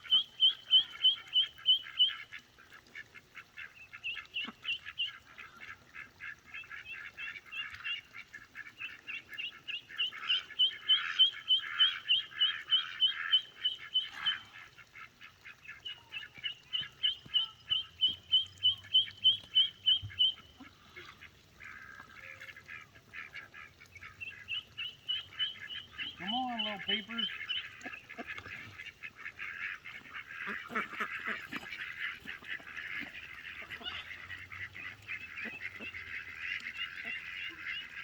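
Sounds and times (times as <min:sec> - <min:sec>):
ducklings peeping: 0:00.0 - 0:02.4, 0:03.6 - 0:38.0.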